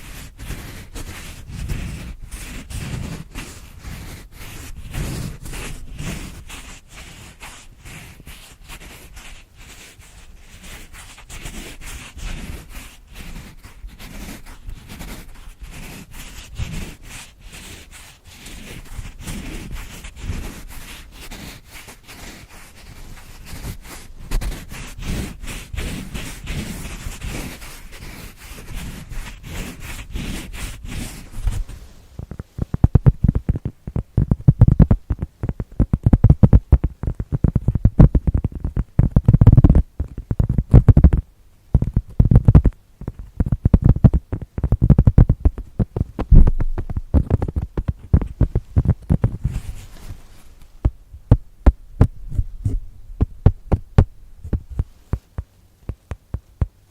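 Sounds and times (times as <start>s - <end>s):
tapping and scratching on a pad: 0.0s - 56.9s.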